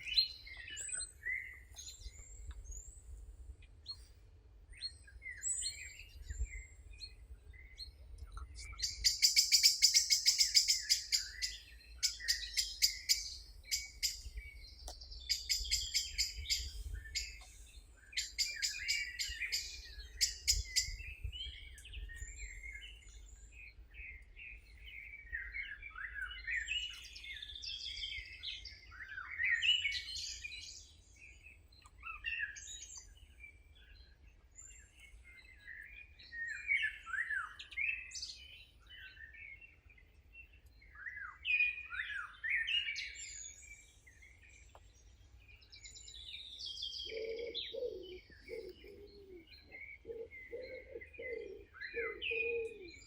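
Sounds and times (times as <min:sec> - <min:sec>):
songbirds singing and chirping: 0:00.0 - 0:53.0.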